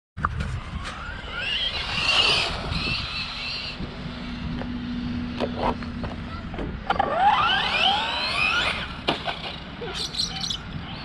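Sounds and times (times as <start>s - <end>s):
electric motor whine: 0.5s - 9.5s.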